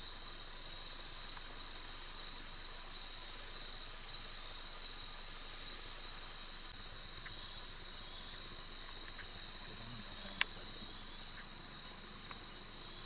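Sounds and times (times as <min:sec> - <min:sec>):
crickets and night insects chirping: 0:00.0 - 0:13.0.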